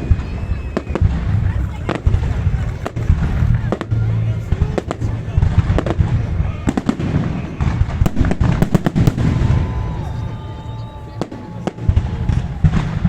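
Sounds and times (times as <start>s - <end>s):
firework cracks and bangs: 0.0s - 13.0s
low rumble: 0.0s - 13.0s.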